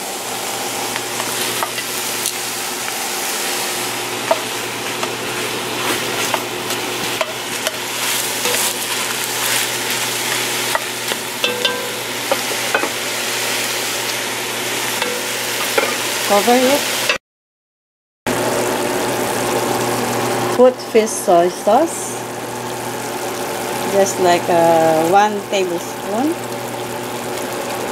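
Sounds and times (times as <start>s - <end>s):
meat sizzling in oil: 0.0s - 17.2s, 18.3s - 27.9s.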